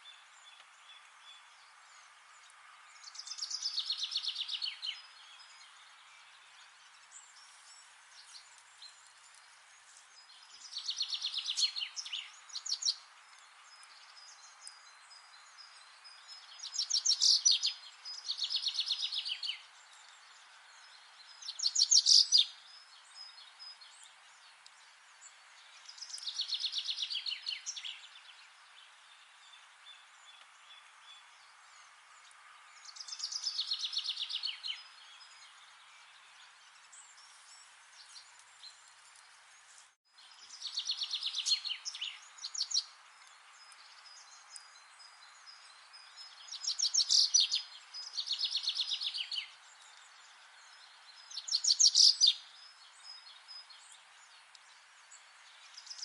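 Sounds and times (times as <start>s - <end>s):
faint hiss: 0.0s - 56.0s
songbird singing trilled phrases: 2.8s - 38.9s, 40.2s - 56.0s.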